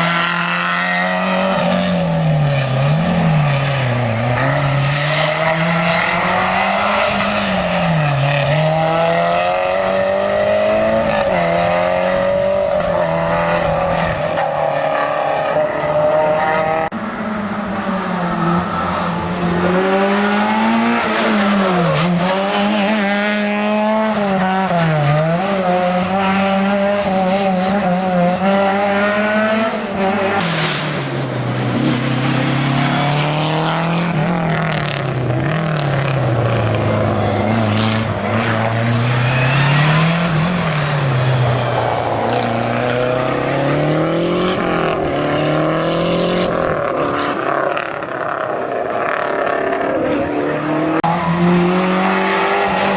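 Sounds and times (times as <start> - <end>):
rally car engine revving: 0.0 - 52.9.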